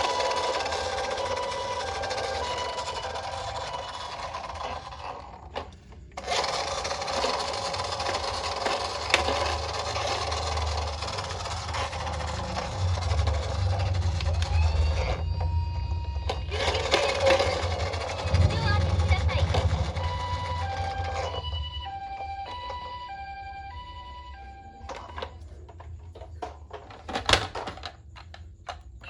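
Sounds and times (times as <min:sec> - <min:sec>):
toy car wheels rubbing: 0:00.0 - 0:29.0.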